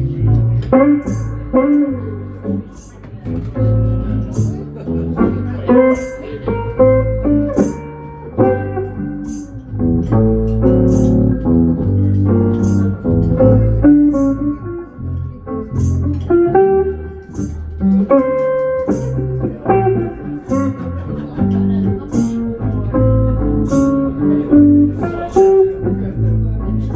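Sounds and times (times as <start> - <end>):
bass line: 0.0 - 26.9
guitar lead notes: 0.0 - 26.9.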